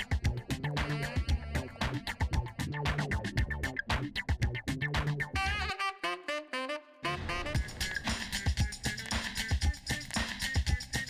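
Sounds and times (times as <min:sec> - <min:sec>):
drum beat: 0:00.0 - 0:05.7, 0:07.3 - 0:11.0
bass line: 0:00.0 - 0:05.8, 0:07.1 - 0:11.0.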